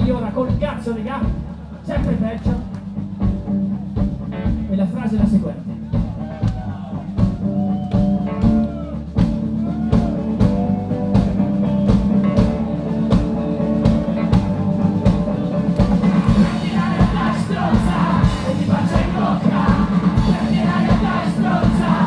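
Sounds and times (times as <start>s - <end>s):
drum kit beat: 0.0s - 22.0s
live rock band playing: 0.0s - 22.0s.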